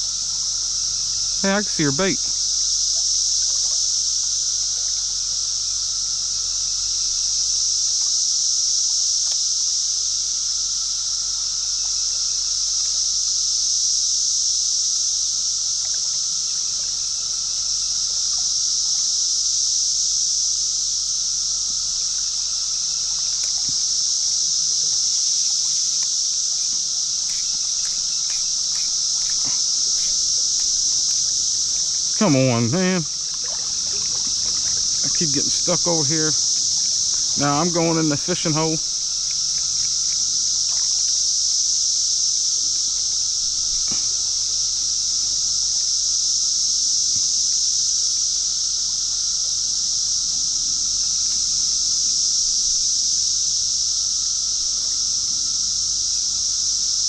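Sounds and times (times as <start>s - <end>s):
faint steady tone: 0.0s - 52.8s
insect chorus drone: 0.0s - 57.0s.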